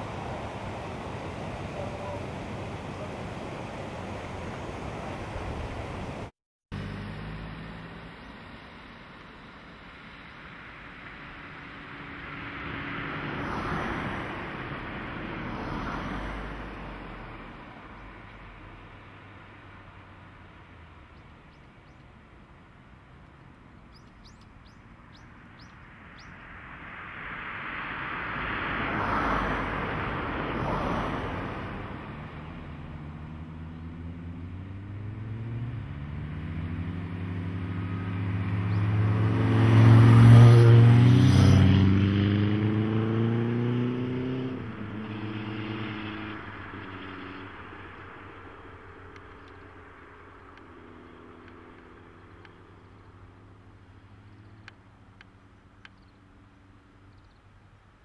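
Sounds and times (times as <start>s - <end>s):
vehicles passing by: 0.0s - 58.0s.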